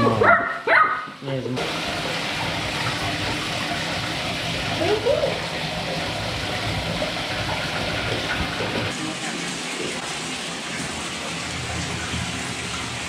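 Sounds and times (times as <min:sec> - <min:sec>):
faucet water pouring into tub: 0:00.0 - 0:13.0.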